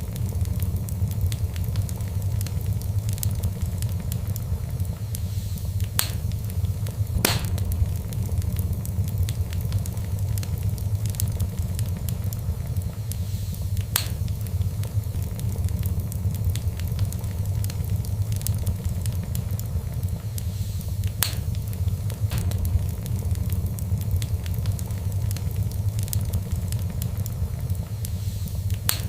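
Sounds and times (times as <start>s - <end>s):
fire crackling: 0.0s - 29.0s
fire rumbling: 0.0s - 29.0s
loud fire pops: 0.0s - 29.0s.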